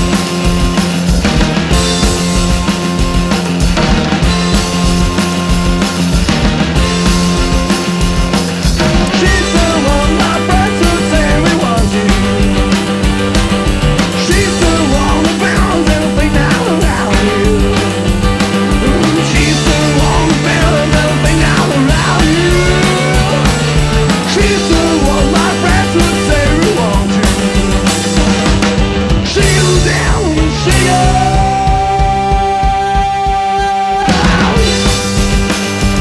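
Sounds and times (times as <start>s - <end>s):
bending lead guitar line: 0.0s - 36.0s
drum beat: 0.0s - 36.0s
rock band playing: 0.0s - 36.0s.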